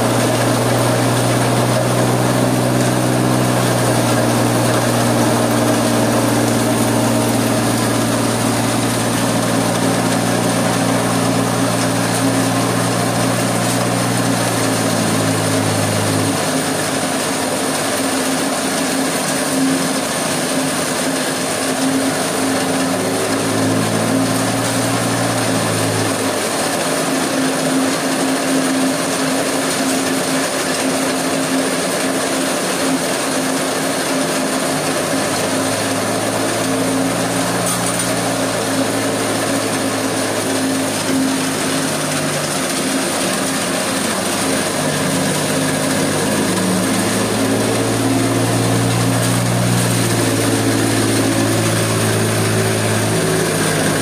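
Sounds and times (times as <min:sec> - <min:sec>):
stone crusher clattering: 0:00.0 - 0:54.0.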